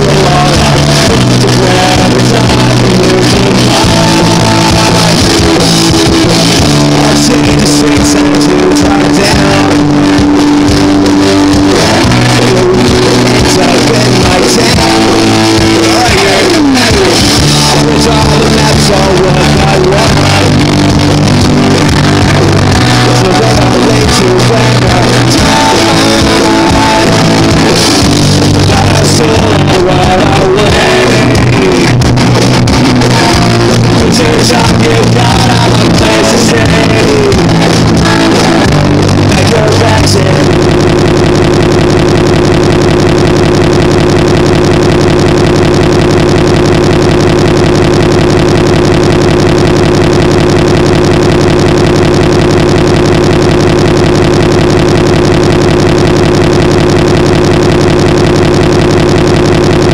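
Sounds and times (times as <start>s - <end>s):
person singing: 0.0s - 55.6s
buzzing drone: 0.0s - 59.9s
pop-punk band playing: 0.0s - 59.9s.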